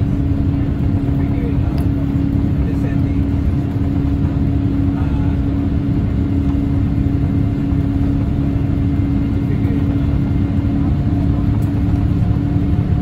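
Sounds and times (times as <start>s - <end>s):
constant hum: 0.0s - 13.0s
jet engines rumbling: 0.0s - 13.0s.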